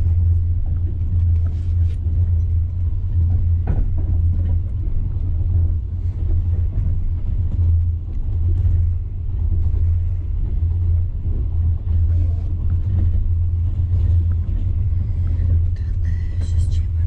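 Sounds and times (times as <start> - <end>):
vehicle rumble from inside: 0.0 - 17.0.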